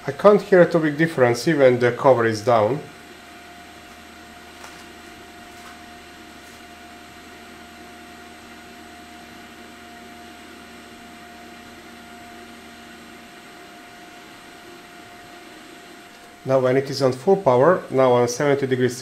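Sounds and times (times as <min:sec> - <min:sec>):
dryer fan blowing with whine: 0:00.0 - 0:19.0.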